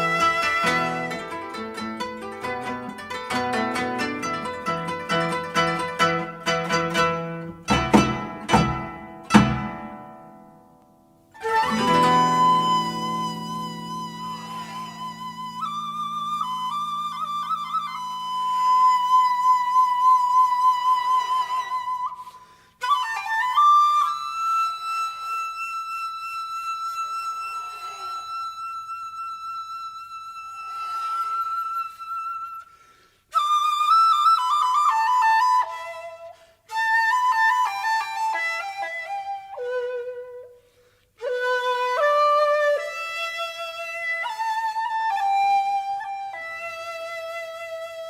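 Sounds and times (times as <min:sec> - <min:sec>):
flute music: 0:00.0 - 0:10.3, 0:11.2 - 0:48.0.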